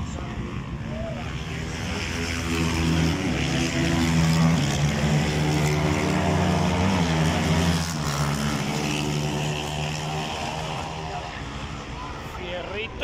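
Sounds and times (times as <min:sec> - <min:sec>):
motorcycle engines revving high: 0:00.0 - 0:13.0.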